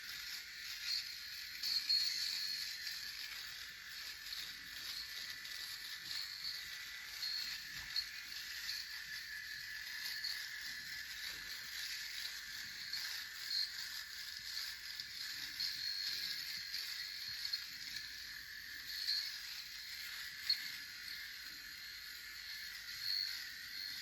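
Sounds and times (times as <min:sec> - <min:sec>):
electric razor buzzing: 0:00.0 - 0:24.0.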